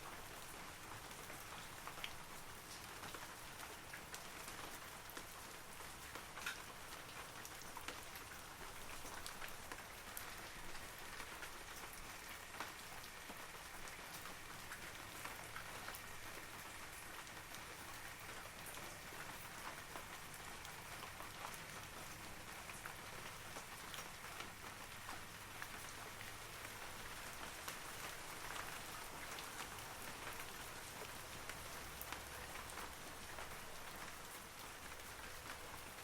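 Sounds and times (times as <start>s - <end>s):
rain falling through trees: 0.0s - 36.0s.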